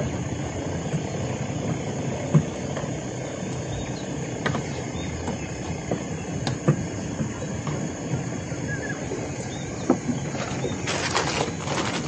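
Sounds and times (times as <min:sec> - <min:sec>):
high insect hum: 0:00.0 - 0:12.0.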